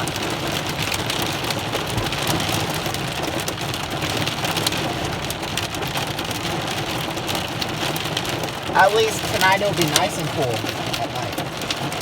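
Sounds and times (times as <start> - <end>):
heavy rain with hail: 0.0 - 12.0.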